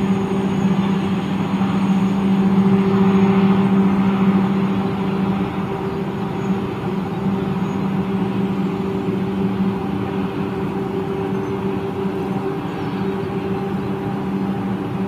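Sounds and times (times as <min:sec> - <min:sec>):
electric train passing hum: 0:00.0 - 0:15.0.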